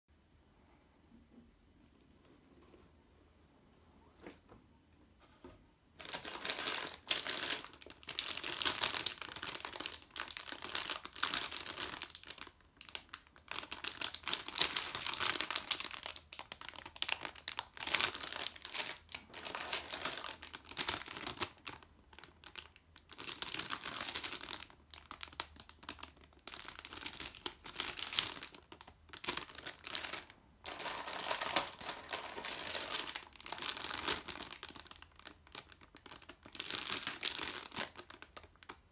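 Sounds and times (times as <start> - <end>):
plastic bags crinkling: 6.0 - 38.9.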